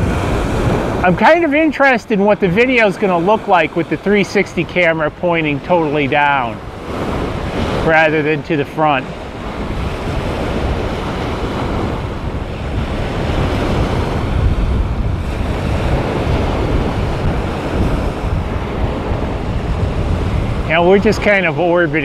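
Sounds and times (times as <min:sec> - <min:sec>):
waves washing onto beach: 0:00.0 - 0:22.0
wind buffeting microphone: 0:00.0 - 0:22.0.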